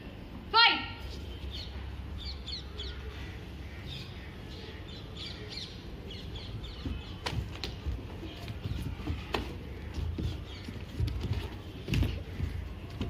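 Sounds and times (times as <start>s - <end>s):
birds chirping: 1.1s - 13.0s.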